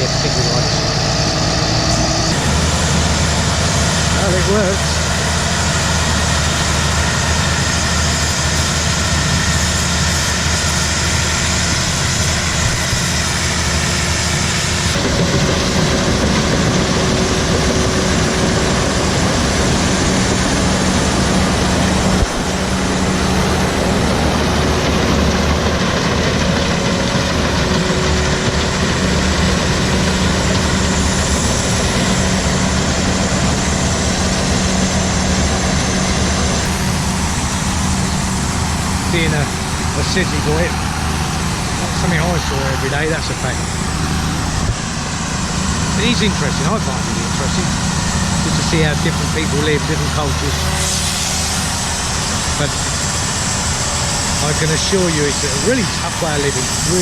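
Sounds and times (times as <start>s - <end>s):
harvester diesel engine running: 0.0s - 57.0s.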